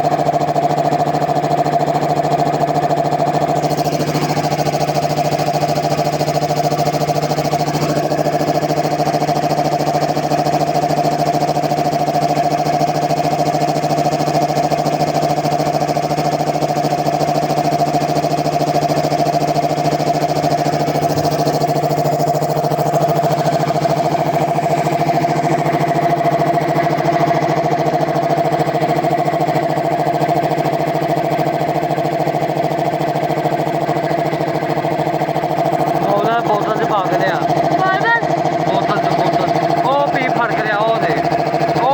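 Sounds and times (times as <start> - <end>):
piston air compressor running: 0.0 - 41.9.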